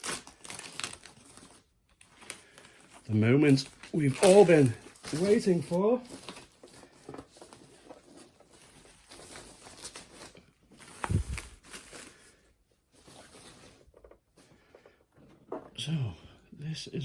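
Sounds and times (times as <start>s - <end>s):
packaging rustling and scraping: 0.0s - 15.8s.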